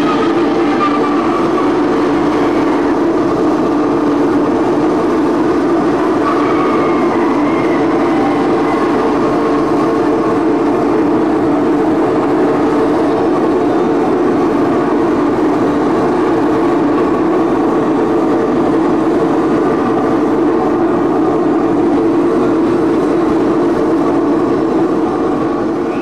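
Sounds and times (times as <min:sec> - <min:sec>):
droning noise performance: 0:00.0 - 0:26.0.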